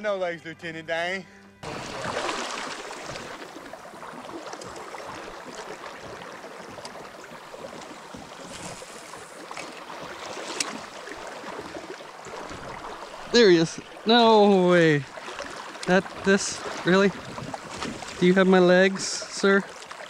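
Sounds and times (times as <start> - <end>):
river water washing around kayak: 1.6 - 20.0.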